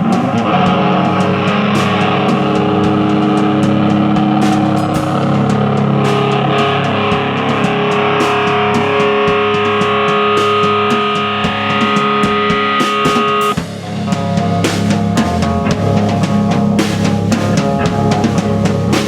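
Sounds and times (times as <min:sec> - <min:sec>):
distorted electric guitar: 0:00.0 - 0:19.0
sharp drum hits: 0:00.0 - 0:19.0.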